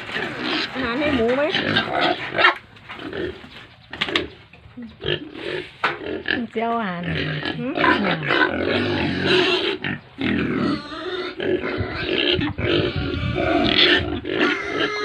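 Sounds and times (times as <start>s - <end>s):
young pigs grunting: 0.0s - 15.0s.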